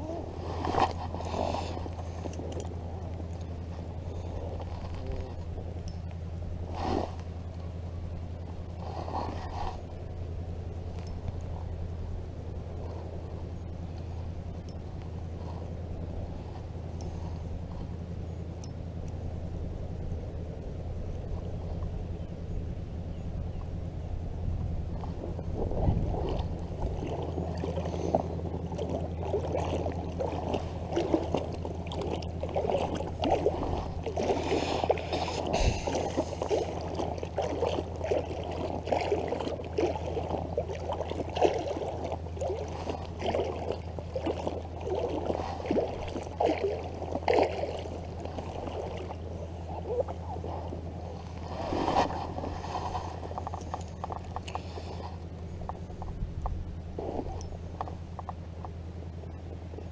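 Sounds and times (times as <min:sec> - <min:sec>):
steady low hum: 0:00.0 - 0:59.9
water gurgling and sloshing: 0:00.0 - 0:59.9.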